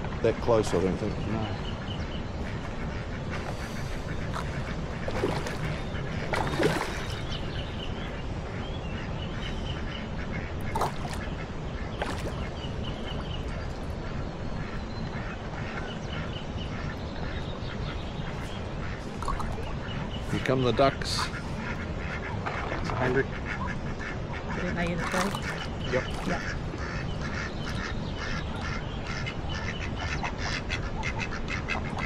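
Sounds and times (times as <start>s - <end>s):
ducks quacking: 0.0s - 32.0s.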